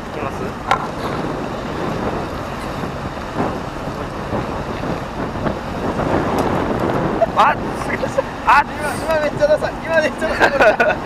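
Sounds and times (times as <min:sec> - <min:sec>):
sea waves washing: 0:00.0 - 0:11.0
wind buffeting microphone: 0:00.0 - 0:11.0.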